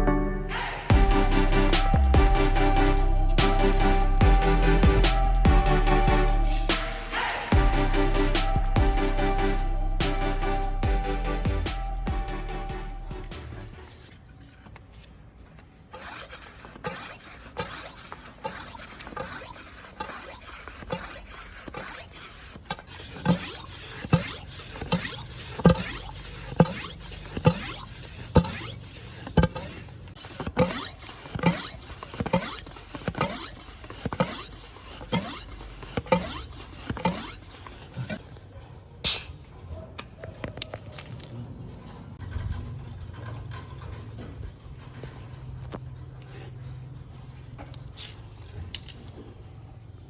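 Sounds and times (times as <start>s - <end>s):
hand air pump strokes: 0.9s - 39.4s, 42.8s - 50.0s.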